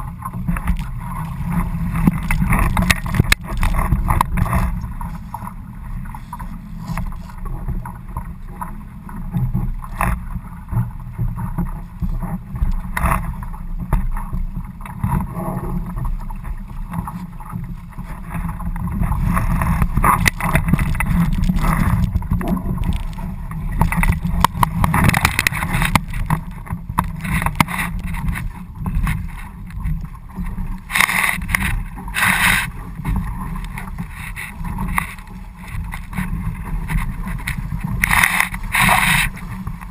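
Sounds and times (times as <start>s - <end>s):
water splashing: 0.0s - 10.2s, 14.1s - 39.9s
water rushing along hull: 0.0s - 39.9s
wind rumbling on microphone: 0.0s - 39.9s.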